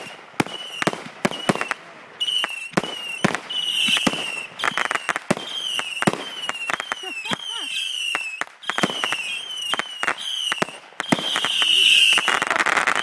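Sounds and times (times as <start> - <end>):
firework cake cracks with whistling: 0.0 - 13.0.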